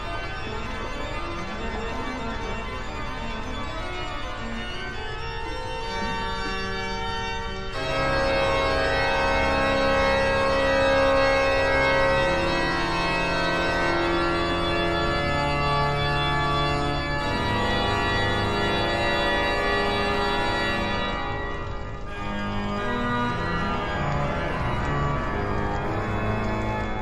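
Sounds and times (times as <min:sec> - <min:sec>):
organ playing sustained chords: 0:00.0 - 0:27.0.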